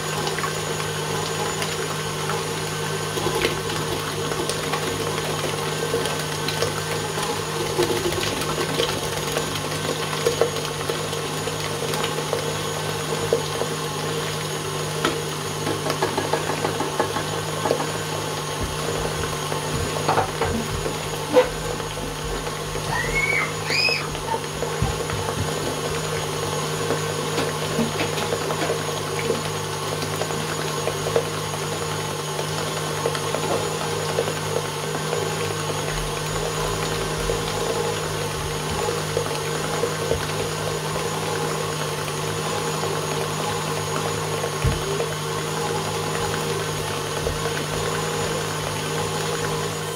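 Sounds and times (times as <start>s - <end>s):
stand mixer motor humming: 0.0s - 49.9s.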